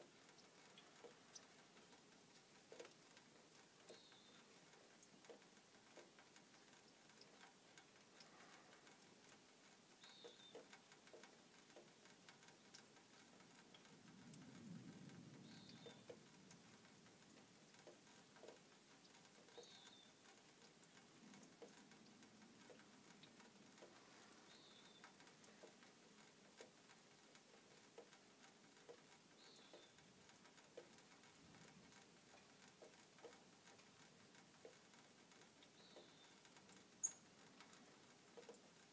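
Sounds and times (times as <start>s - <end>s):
faint scattered ticks: 0.0s - 38.9s.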